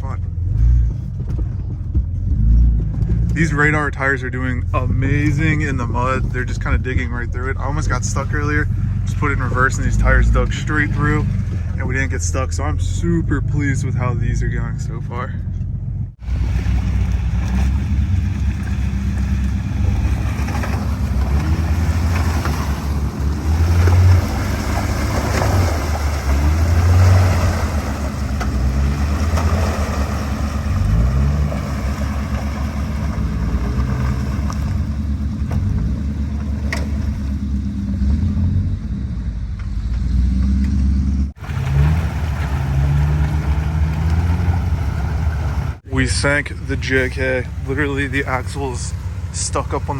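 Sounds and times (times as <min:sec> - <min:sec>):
engine revving under load: 0:00.0 - 0:49.9
water and mud splashing: 0:03.1 - 0:14.8, 0:16.2 - 0:38.3, 0:41.4 - 0:49.9.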